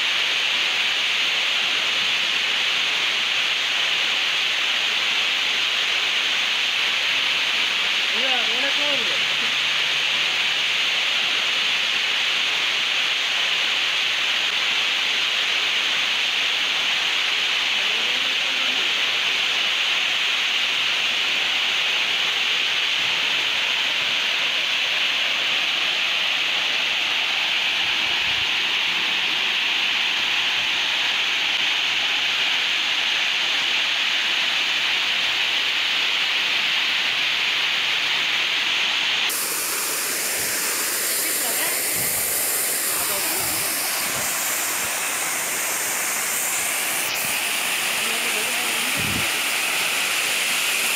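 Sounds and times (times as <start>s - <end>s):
waterfall rushing hiss: 0.0s - 50.9s.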